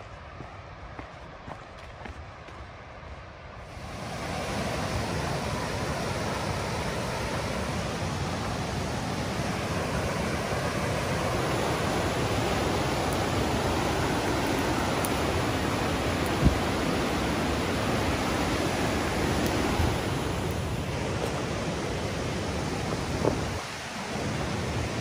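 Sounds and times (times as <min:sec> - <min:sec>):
river water rushing: 0:03.6 - 0:25.0.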